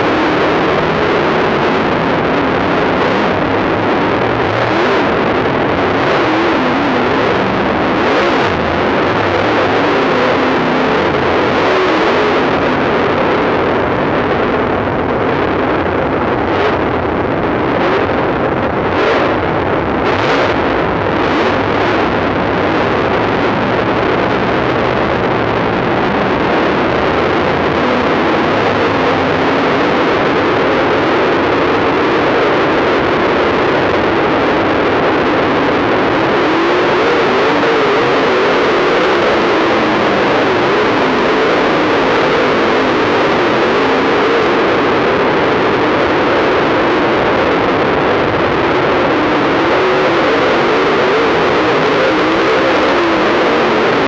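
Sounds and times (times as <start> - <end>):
distorted race car engine: 0.0 - 54.0.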